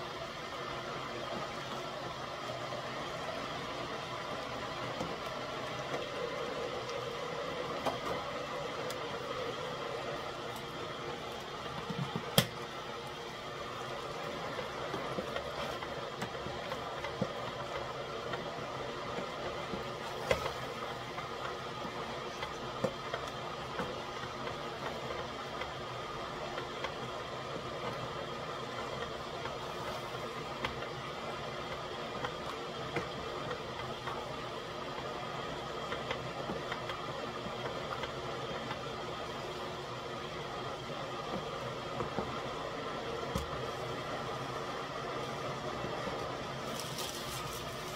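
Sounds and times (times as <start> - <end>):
electric kettle heating water: 0.0 - 47.9
food cooking in a pot: 0.0 - 47.9.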